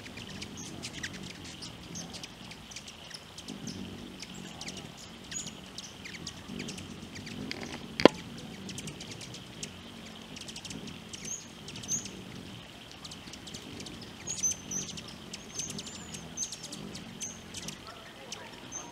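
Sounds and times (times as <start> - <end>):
hummingbird chip notes: 0.0 - 18.9.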